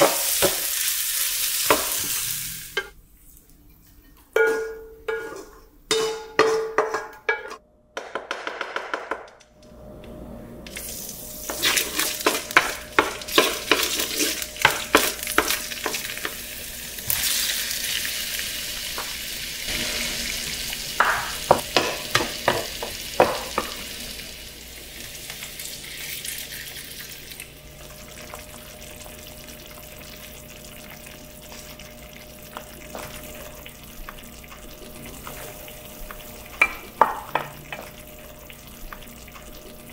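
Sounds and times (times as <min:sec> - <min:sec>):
tomatoes sizzling in hot oil: 0:00.0 - 0:02.9, 0:10.7 - 0:39.9.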